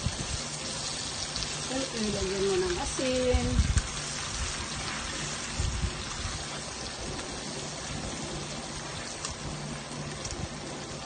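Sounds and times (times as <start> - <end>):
shrimp sizzling in a pan: 0.0 - 11.0.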